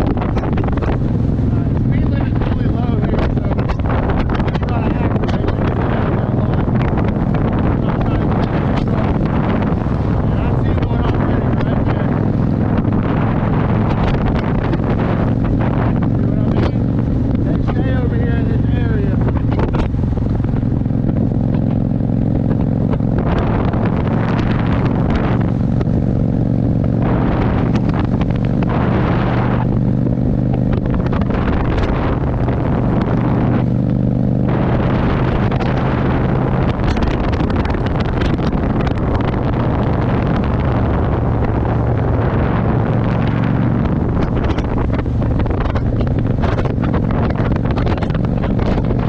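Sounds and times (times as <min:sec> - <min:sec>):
motorcycle engine running: 0:00.0 - 0:49.0
wind rushing over microphone: 0:00.0 - 0:49.0.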